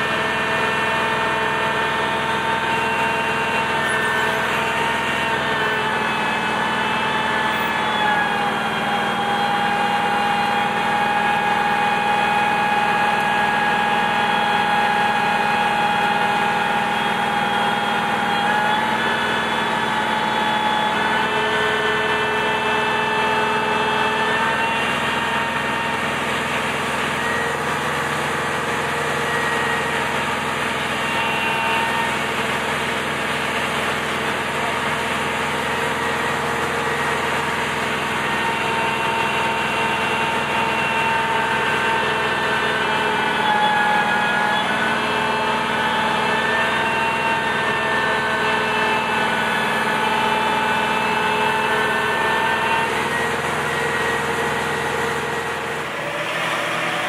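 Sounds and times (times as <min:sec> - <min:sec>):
hydraulic whining: 0:00.0 - 0:57.0
truck engine running: 0:00.0 - 0:57.0.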